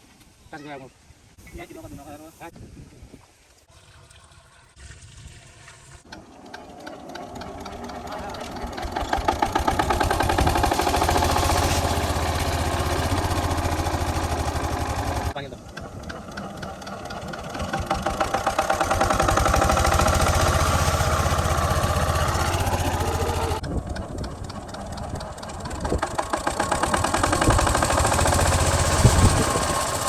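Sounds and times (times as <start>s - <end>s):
water pump engine knocking: 3.8s - 30.0s.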